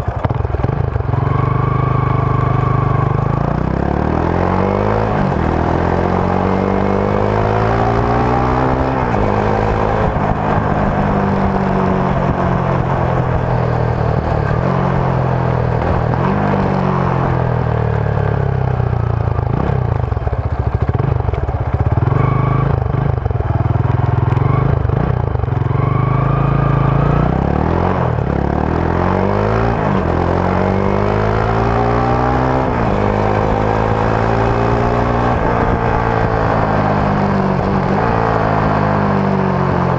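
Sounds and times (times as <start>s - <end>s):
motorcycle revving through gears: 0.0s - 39.9s.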